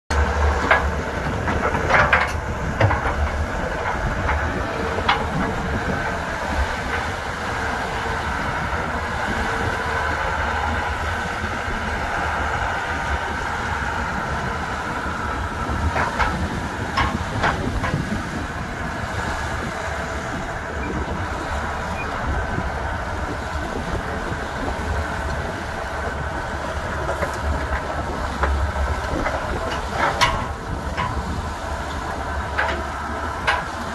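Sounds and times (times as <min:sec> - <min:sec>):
excavator diesel engine under load: 0:00.1 - 0:33.9
steel tracks clanking: 0:00.1 - 0:33.9.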